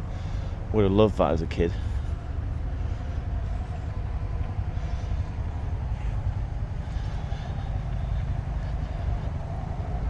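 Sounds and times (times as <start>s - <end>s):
faint hum: 0.0s - 10.0s
steady low rumble: 0.0s - 10.0s.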